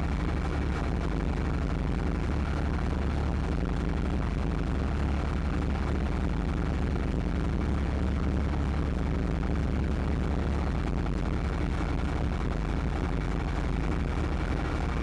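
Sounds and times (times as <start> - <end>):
atv engine rumble: 0.0 - 15.0.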